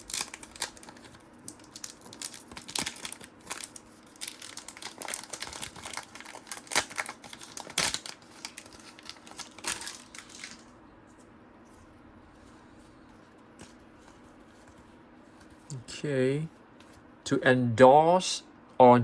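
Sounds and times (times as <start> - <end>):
trading cards rustling: 0.0 - 15.8.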